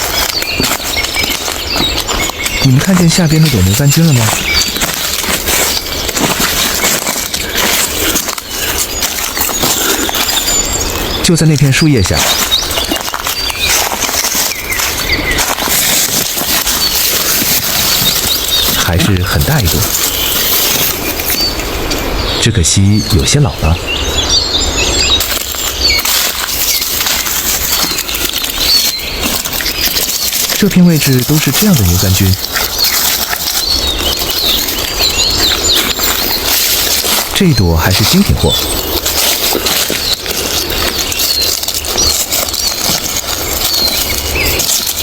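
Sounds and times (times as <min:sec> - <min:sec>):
bird chirps: 0:00.0 - 0:45.0
crunching dry leaves and twigs: 0:00.0 - 0:45.0.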